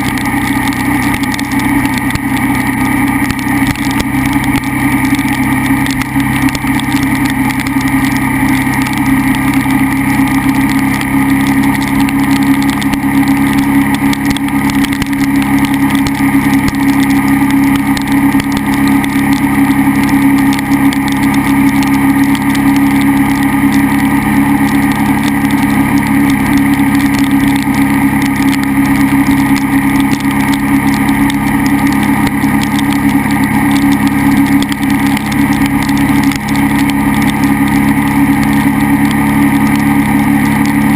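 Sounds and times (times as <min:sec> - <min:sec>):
motorcycle engine running: 0:00.0 - 0:40.9
steady rush of noise: 0:00.0 - 0:40.9.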